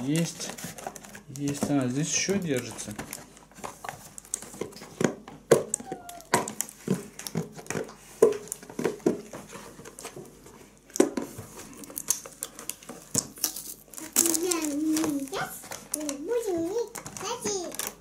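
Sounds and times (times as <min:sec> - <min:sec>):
toy packaging crinkling: 0:00.0 - 0:10.4, 0:11.6 - 0:18.0.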